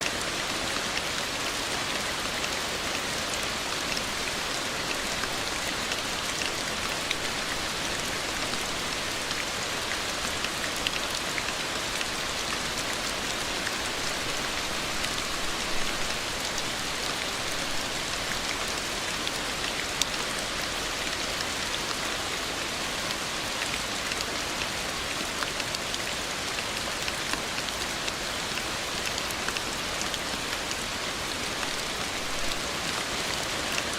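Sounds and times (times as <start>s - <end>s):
rain drops ticking: 0.0s - 33.9s.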